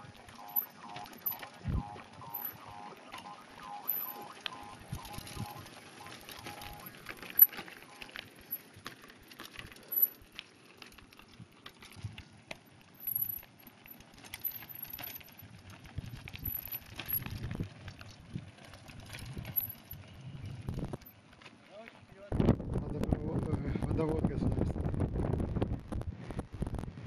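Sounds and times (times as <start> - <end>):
tyres crunching over gravel: 0.0 - 22.3
bikes rattling and clicking: 0.0 - 23.4.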